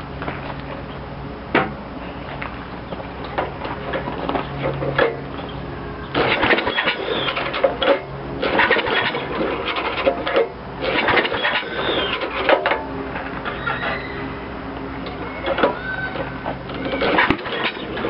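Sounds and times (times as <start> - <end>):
mower engine cranking: 3.2 - 18.0.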